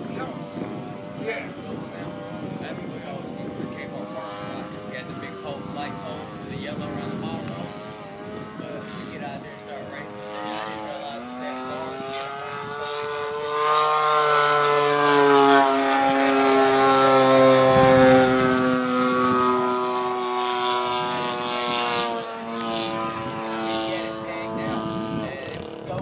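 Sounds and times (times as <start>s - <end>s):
model plane engine buzzing overhead: 0.0s - 26.0s.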